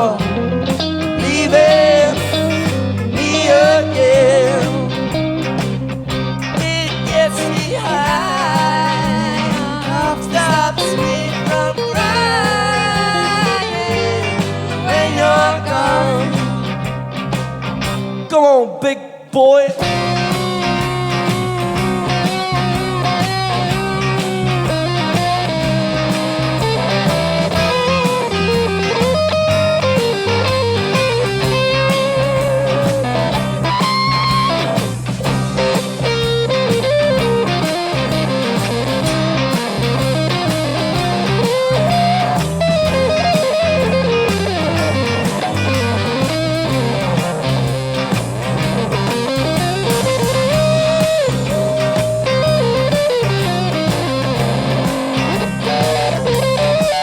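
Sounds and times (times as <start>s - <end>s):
bass: 0.0s - 18.3s, 19.8s - 57.0s
electric guitar solo with bent notes: 0.0s - 18.3s, 19.8s - 57.0s
drums: 0.0s - 18.5s, 19.2s - 57.0s
rhythm guitars: 0.0s - 57.0s.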